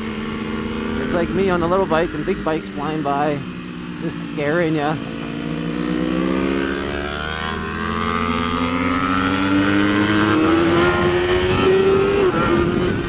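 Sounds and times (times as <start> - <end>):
motorcycle engine accelerating: 0.0 - 13.0
second motorcycle engine: 0.0 - 13.0.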